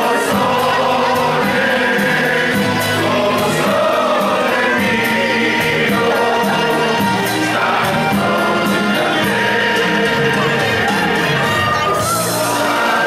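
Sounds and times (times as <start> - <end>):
group singing as a choir: 0.0 - 13.0
music with a steady beat: 0.0 - 13.0.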